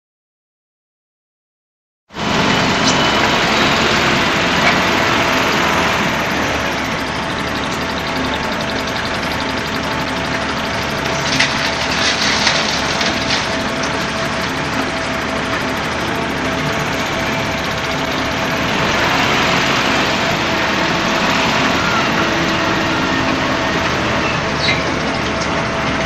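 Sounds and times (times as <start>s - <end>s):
pump engine running: 2.2s - 26.0s
rattling clatter: 2.3s - 26.0s.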